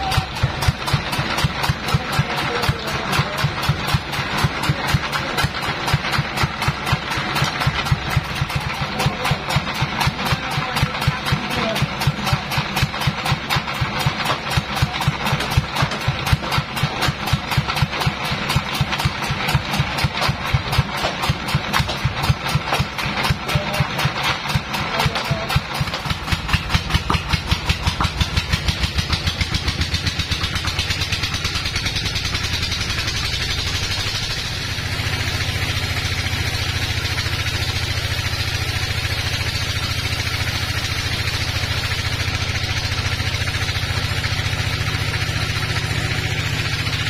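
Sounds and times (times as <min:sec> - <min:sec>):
band sawmill engine sawing log: 0:00.0 - 0:47.0.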